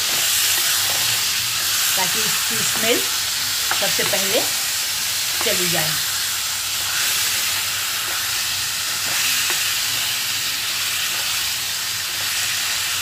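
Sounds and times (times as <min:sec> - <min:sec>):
liver and onions sizzling: 0:00.0 - 0:13.0.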